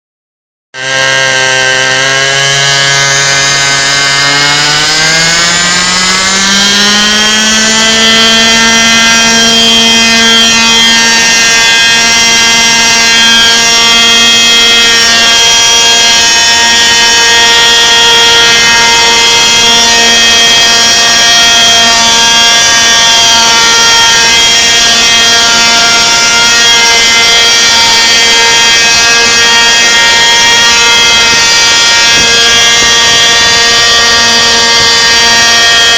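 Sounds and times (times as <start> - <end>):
model helicopter engine: 0.8 - 35.9.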